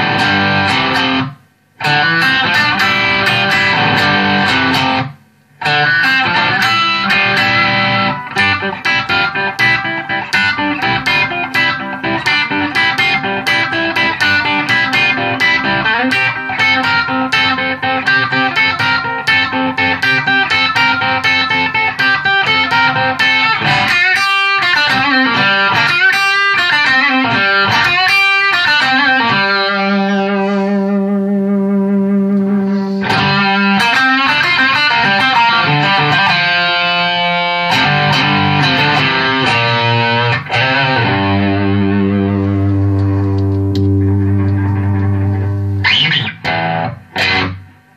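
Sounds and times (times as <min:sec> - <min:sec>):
overdriven electric guitar lead: 0:00.0 - 0:47.9.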